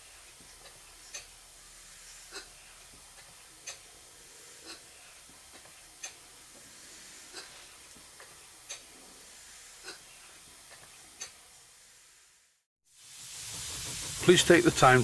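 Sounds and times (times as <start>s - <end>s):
steam engine hissing: 0.0s - 15.0s.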